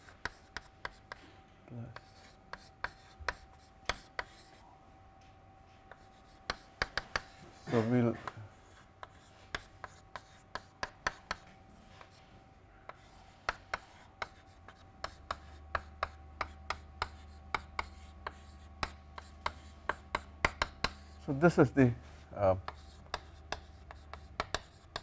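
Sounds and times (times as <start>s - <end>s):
chalk scratching: 0.0s - 1.3s, 1.9s - 4.6s, 5.9s - 12.3s, 12.9s - 25.0s
chalk tapping on chalkboard: 0.0s - 1.3s, 1.9s - 4.5s, 5.7s - 12.2s, 12.9s - 21.5s, 22.6s - 25.0s.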